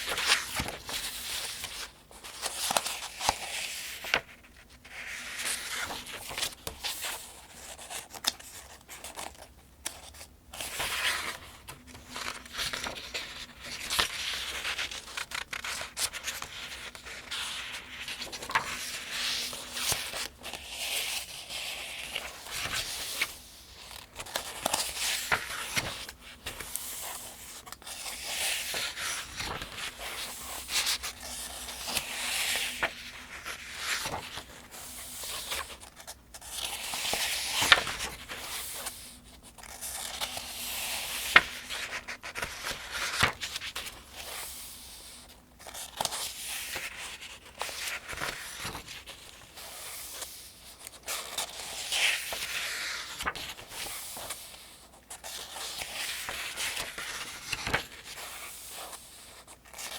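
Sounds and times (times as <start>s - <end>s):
paper pages turning: 0.0s - 59.9s.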